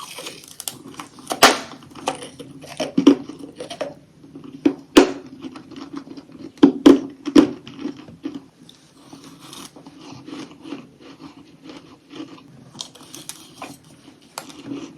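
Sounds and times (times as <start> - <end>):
teeth crunching ice: 0.0 - 4.0, 5.0 - 14.9.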